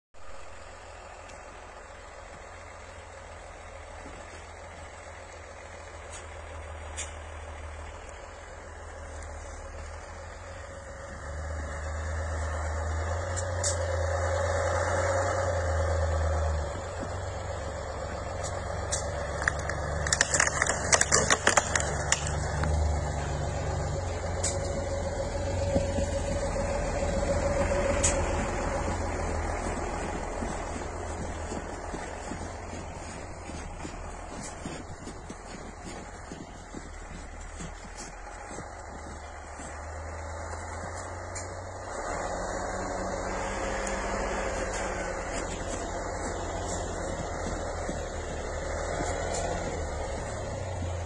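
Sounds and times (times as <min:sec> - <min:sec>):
off-road vehicle engine: 0:00.2 - 0:51.0
snapping and crunching under tyres: 0:00.4 - 0:51.0.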